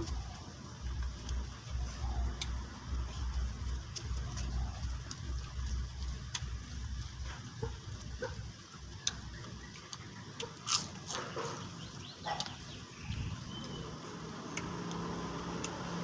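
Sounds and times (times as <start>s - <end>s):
person chewing with mouth clicks: 0.0s - 11.7s, 14.5s - 15.8s
low background rumble: 0.0s - 16.0s.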